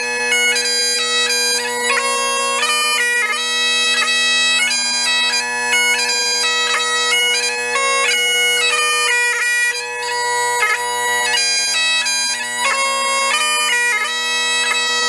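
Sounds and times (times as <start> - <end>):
bagpipe chanter melody: 0.0 - 15.0
bagpipe drones humming: 0.0 - 15.0.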